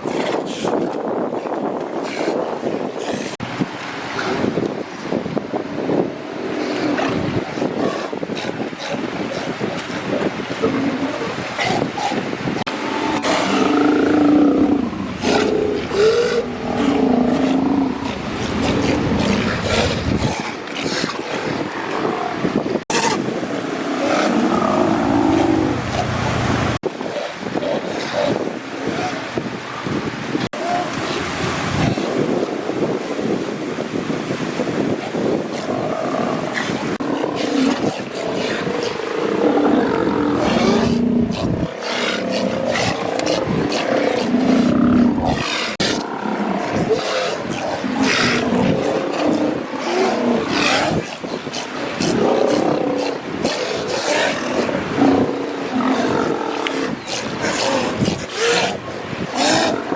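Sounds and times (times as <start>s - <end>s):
seals bellowing: 5.5s - 29.5s, 30.5s - 59.9s
sea lions moaning calls: 5.6s - 29.4s, 34.7s - 59.9s.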